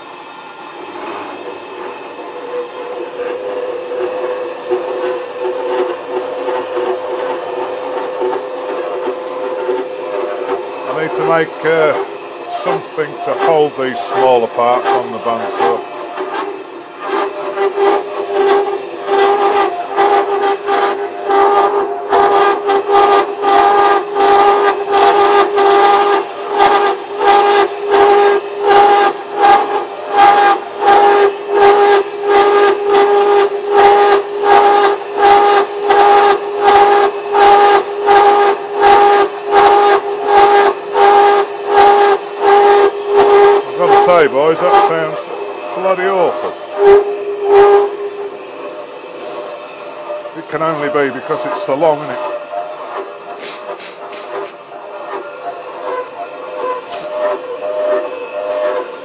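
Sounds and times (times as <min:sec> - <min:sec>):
saw cutting metal squealing: 0:00.0 - 0:59.0.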